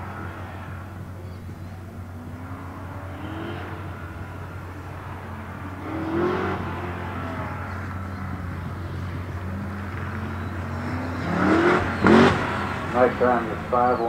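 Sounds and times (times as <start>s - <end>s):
sports car engine accelerating: 0.0s - 14.0s.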